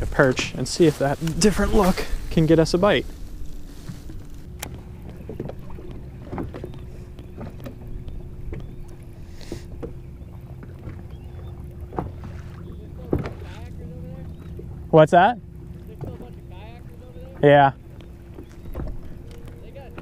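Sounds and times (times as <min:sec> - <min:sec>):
trolling motor hum: 0:00.0 - 0:20.0
waves slapping boat hull: 0:00.0 - 0:20.0.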